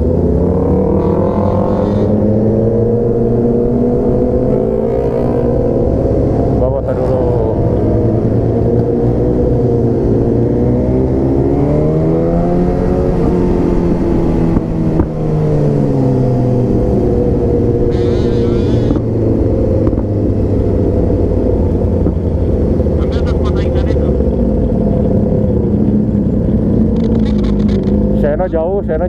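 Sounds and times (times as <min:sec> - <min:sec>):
motorcycle engine: 0:00.0 - 0:29.0
wind rumble on microphone: 0:00.0 - 0:29.0.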